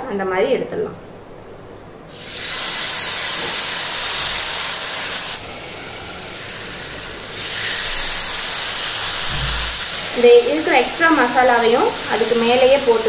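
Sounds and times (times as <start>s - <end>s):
chicken sizzling in hot oil: 2.1s - 13.0s.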